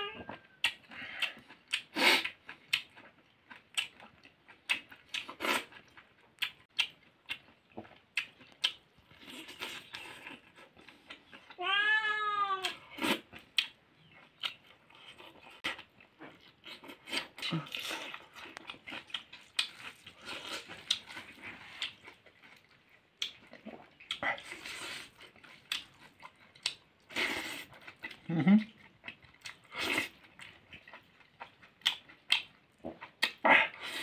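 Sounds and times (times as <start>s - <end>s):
lip smacks and chewing: 0.3s - 11.6s, 12.6s - 34.0s.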